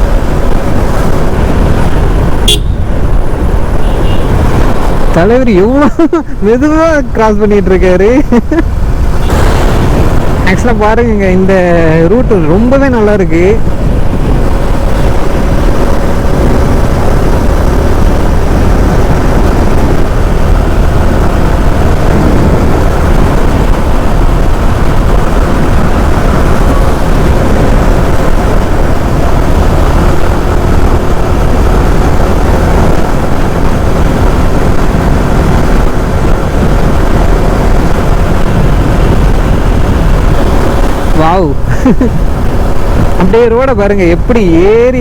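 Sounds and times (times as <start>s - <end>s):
motorcycle engine cruising: 0.0s - 45.0s
wind rushing on microphone: 0.0s - 45.0s.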